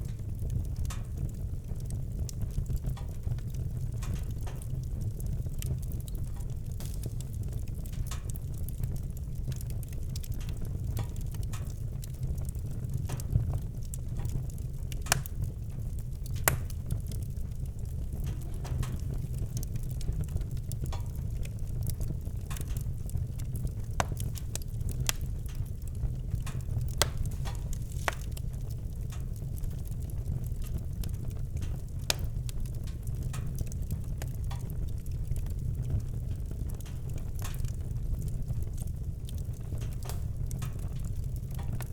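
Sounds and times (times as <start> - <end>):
campfire crackling: 0.0 - 41.9.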